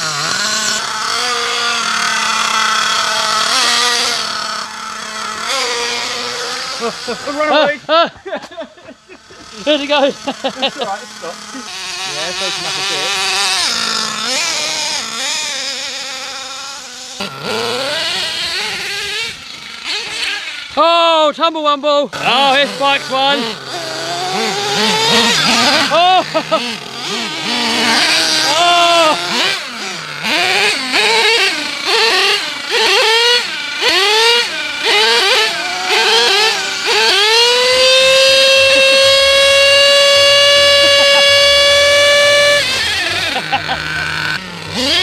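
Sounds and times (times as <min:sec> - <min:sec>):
rc truck engine buzzing: 0:00.0 - 0:45.0.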